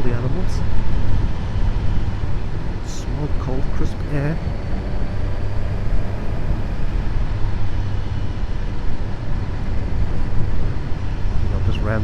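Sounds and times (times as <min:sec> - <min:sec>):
wind rush: 0:00.0 - 0:11.8.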